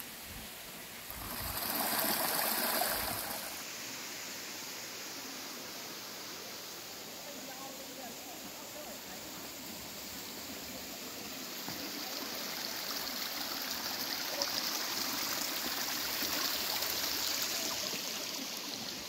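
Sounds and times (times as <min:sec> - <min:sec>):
stream trickling over rocks: 0:00.0 - 0:19.0.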